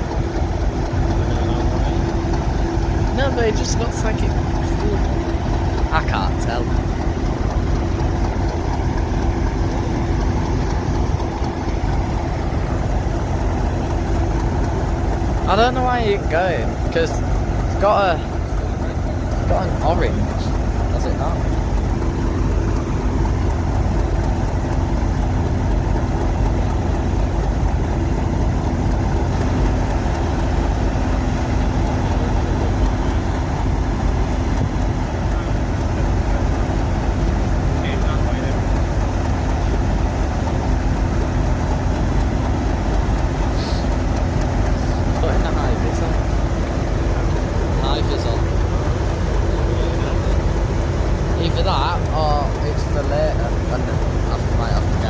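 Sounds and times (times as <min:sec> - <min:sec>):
train engine idling: 0:00.0 - 0:55.0.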